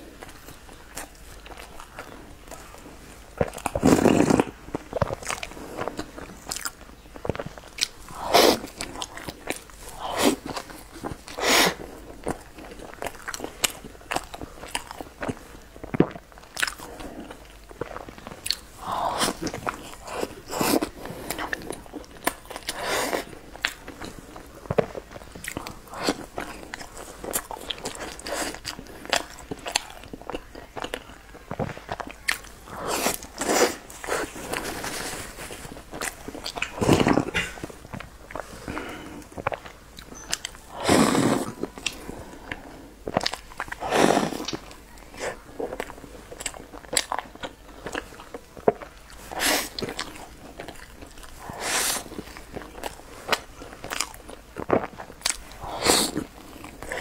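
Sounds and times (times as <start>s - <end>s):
biting and chewing soft bread: 0.0s - 57.0s.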